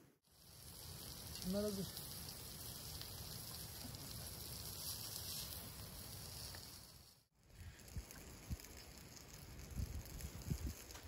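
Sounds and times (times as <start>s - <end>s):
food sizzling on a grill: 0.2s - 11.0s.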